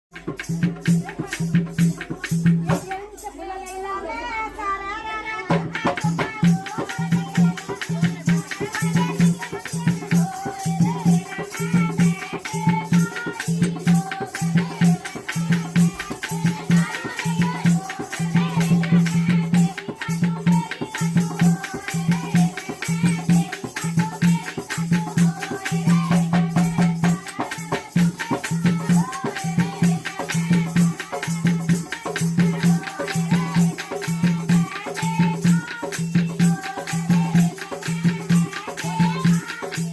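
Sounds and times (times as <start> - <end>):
hand drum beat: 0.1 - 3.1, 5.5 - 39.9
shaken rattle: 0.2 - 3.4, 5.8 - 39.9.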